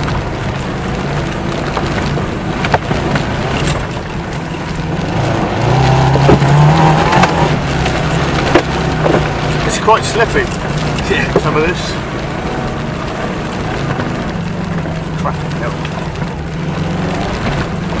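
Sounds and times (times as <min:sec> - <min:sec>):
car engine pulling under load: 0:00.0 - 0:18.0
car knocks and rattles: 0:00.0 - 0:18.0.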